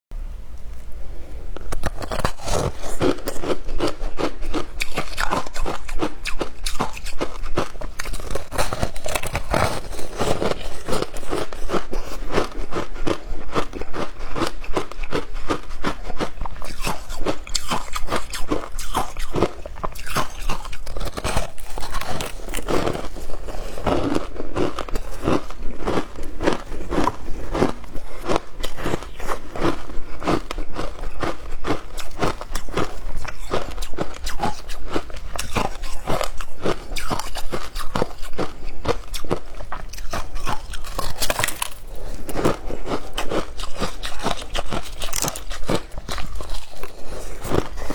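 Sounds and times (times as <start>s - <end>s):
chewing frozen ice crunches: 1.6s - 47.9s.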